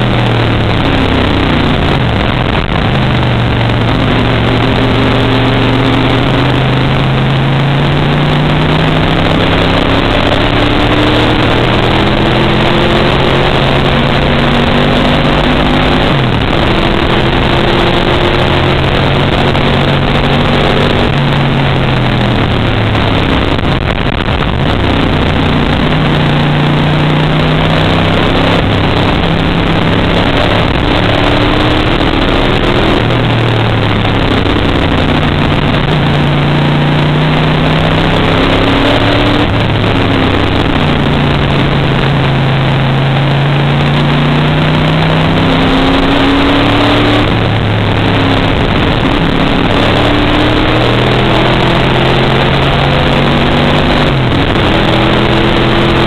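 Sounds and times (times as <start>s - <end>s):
race car engine running hard: 0.0s - 56.0s
steady rushing noise: 0.0s - 56.0s.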